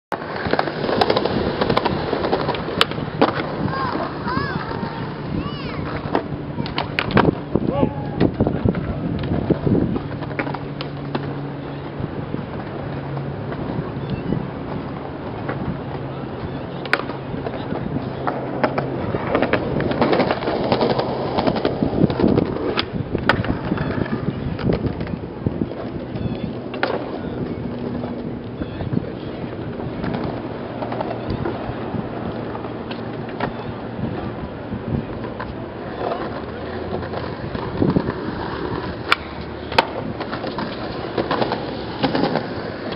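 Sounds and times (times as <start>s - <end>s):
skateboard wheels rolling on concrete: 0.1s - 42.9s
skateboard ollie pop: 0.2s - 5.0s, 5.8s - 7.6s, 8.2s - 12.8s, 15.3s - 31.7s, 32.5s - 42.9s.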